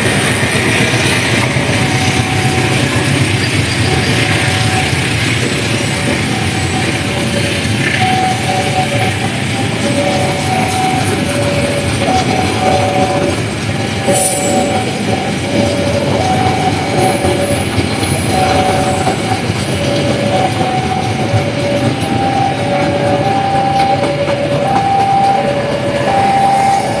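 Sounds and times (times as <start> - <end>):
passing train rumble and clatter: 0.0 - 27.0
level crossing alarm two tones: 1.6 - 3.0, 3.9 - 27.0.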